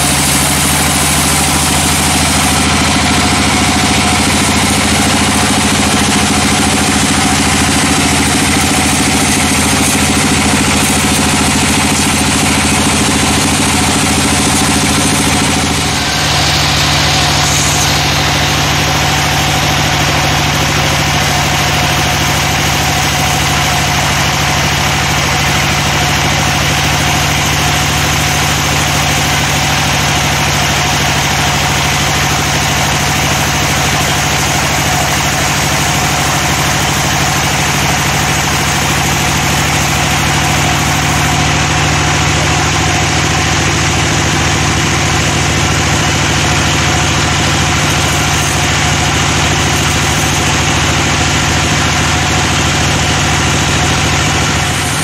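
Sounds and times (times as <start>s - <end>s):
saw blade cutting log: 0.0s - 55.0s
sawmill machine hum: 0.0s - 55.0s.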